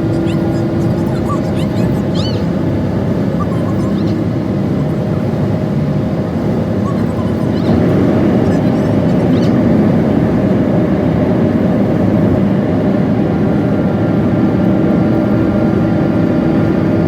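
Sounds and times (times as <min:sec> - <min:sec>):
car driving road noise: 0:00.0 - 0:17.0.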